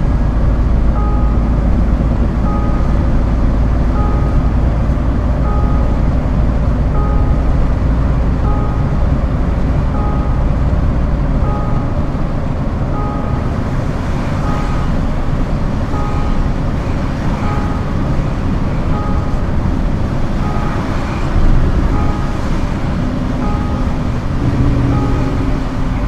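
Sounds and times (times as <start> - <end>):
truck diesel engine rumbling: 0.0 - 26.0
two-note beep: 0.9 - 13.7, 14.3 - 26.0.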